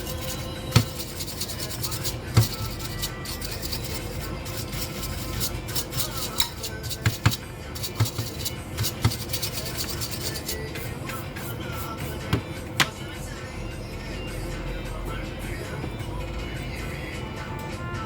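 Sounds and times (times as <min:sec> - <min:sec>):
quiet background music: 0:00.0 - 0:18.0.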